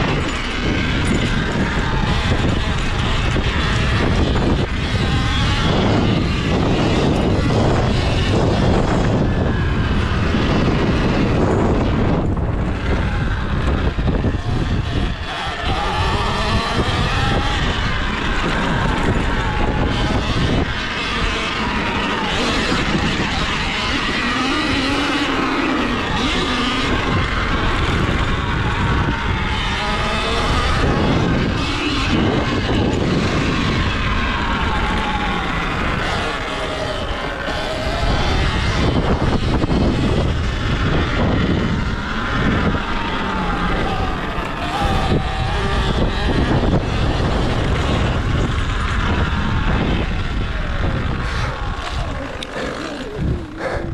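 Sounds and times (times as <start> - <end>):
bike knocking and rattling: 0.0 - 53.9
electric motor whine: 0.0 - 53.9
wind and road noise: 0.0 - 53.9.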